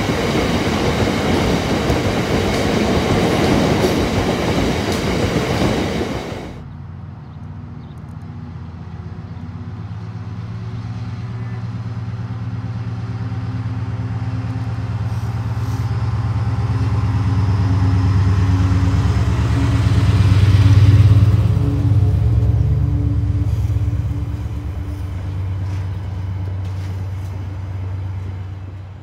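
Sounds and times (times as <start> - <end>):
diesel locomotive engine hum: 0.0 - 29.0.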